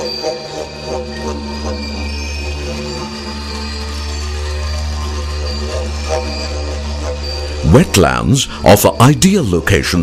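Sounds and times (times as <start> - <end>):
deep drone music: 0.0 - 10.0.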